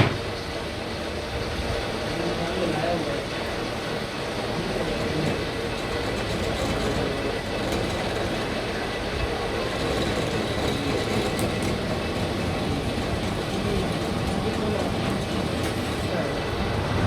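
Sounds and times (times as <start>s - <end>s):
workshop machinery running: 0.0s - 17.0s.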